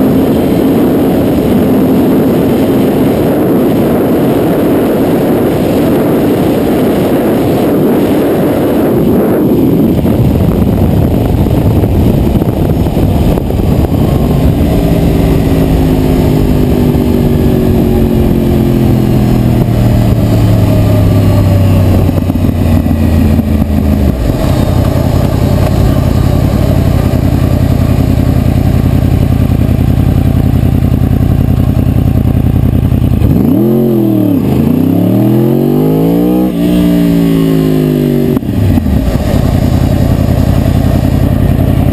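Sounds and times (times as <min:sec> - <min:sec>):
wind on microphone: 0:00.0 - 0:30.5, 0:32.4 - 0:41.9
motorcycle engine: 0:00.0 - 0:41.9.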